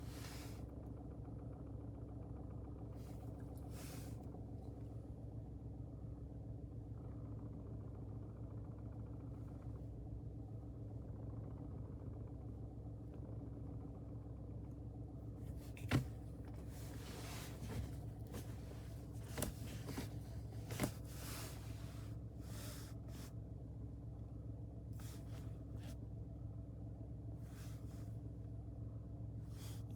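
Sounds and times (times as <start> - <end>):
car engine idling with rattle: 0.0 - 29.9.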